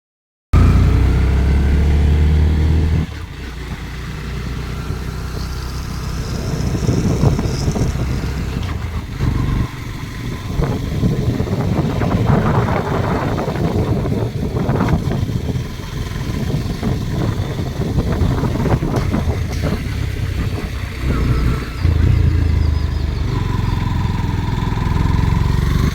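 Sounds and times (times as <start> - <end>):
vehicle engine running: 0.6 - 25.9
wind and road noise: 0.6 - 25.9.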